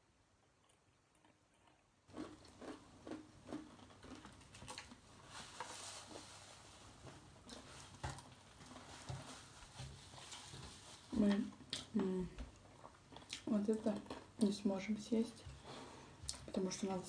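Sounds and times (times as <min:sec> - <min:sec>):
crunching and chewing fried chicken: 0:00.4 - 0:14.6.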